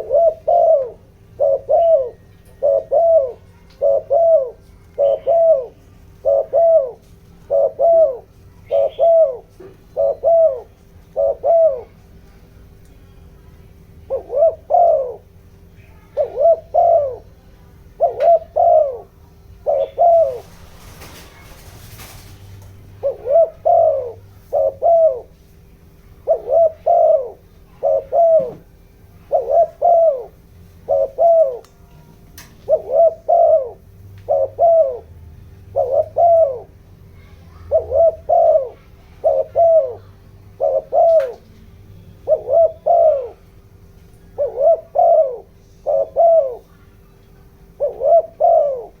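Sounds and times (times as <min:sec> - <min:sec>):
dove cooing: 0:00.0 - 0:12.6, 0:13.8 - 0:31.7, 0:32.5 - 0:43.6, 0:44.2 - 0:49.0
faint steady hum: 0:00.0 - 0:49.0.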